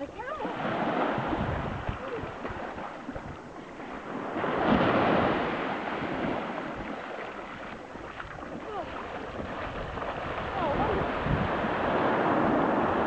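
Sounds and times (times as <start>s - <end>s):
wave washing onto sandy beach: 0.0s - 13.0s.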